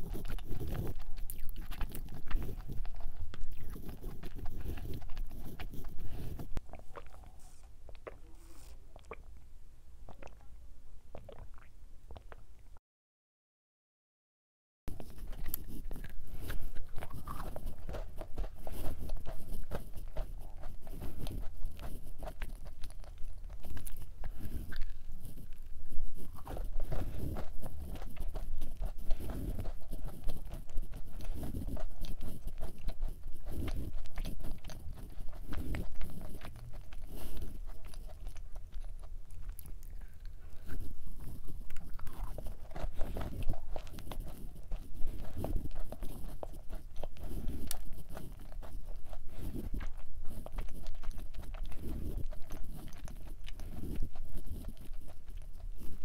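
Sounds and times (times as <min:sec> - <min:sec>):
person chewing crunchy cookie: 0:00.0 - 0:12.6, 0:14.9 - 0:56.0.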